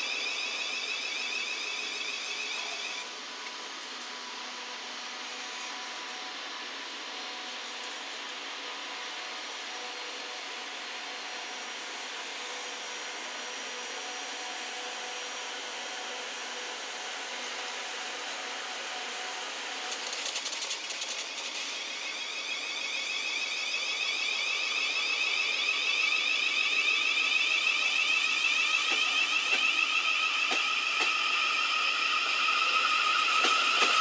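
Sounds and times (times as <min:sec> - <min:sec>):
electric train humming: 0:00.0 - 0:34.0.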